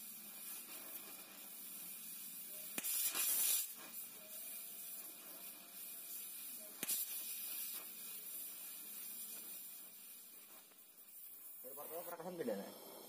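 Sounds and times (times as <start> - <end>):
welding torch sharp pops: 0.0 - 12.5
gas welding torch hissing: 0.0 - 13.0.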